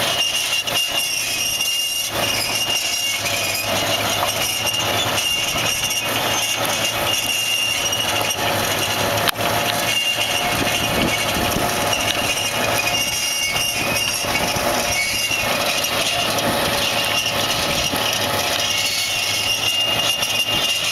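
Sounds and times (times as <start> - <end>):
high thin whine: 0.0 - 20.9
machinery din: 2.1 - 20.9.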